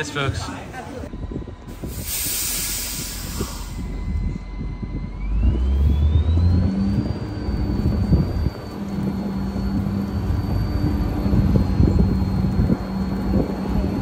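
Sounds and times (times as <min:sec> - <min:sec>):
vehicle engine rumble: 0:00.0 - 0:14.0
thin whine rising: 0:01.1 - 0:14.0.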